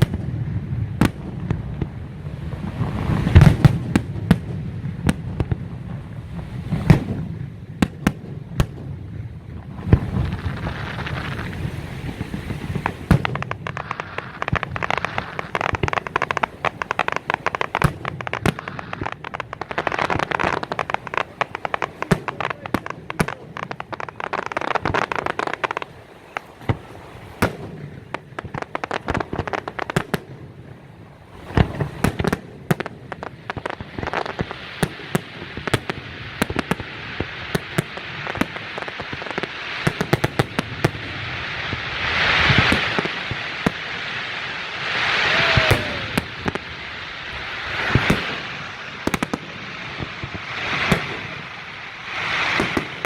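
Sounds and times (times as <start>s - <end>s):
firework bangs: 0.0s - 53.0s
firework crackling: 0.0s - 53.0s.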